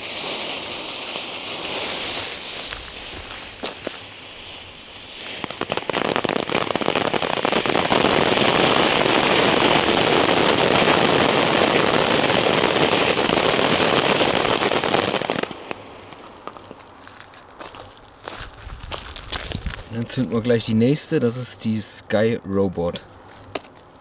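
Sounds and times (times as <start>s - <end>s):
fountain firework crackling: 0.0s - 20.0s.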